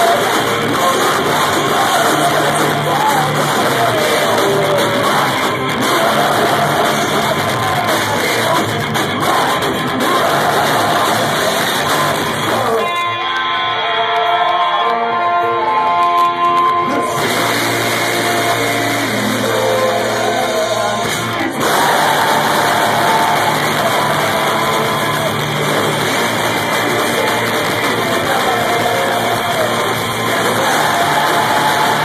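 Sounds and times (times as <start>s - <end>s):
crowd shouting along: 0.0s - 32.0s
live punk band playing: 0.0s - 32.0s.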